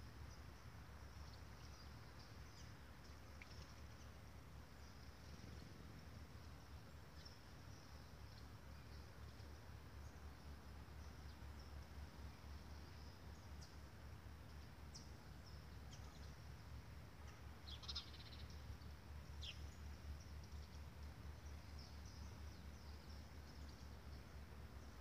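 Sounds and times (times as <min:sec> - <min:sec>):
low background rumble: 0:00.0 - 0:25.0
small birds chirping: 0:00.0 - 0:25.0.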